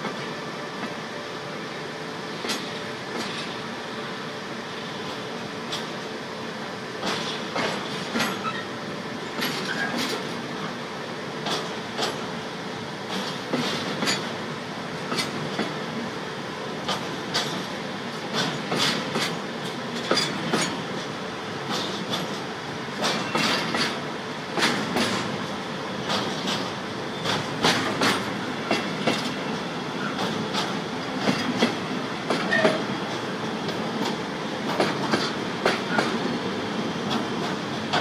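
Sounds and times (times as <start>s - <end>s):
freight train rumbling past: 0.0s - 38.0s
train wheels clacking on rail joints: 2.3s - 3.6s, 5.0s - 6.1s, 7.0s - 10.8s, 11.4s - 12.4s, 13.0s - 16.1s, 16.8s - 38.0s.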